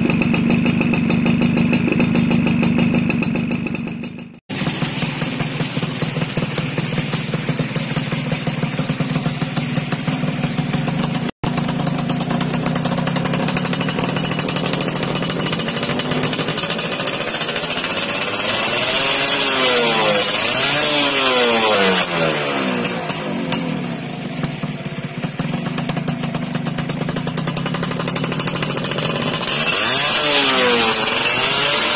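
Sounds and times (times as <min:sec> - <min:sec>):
two-stroke engine idling and revving: 0:00.0 - 0:31.9.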